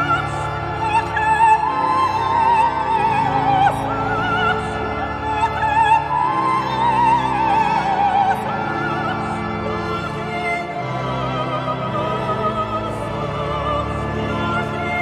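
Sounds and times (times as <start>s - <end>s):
operatic high voice singing: 0.0s - 15.0s.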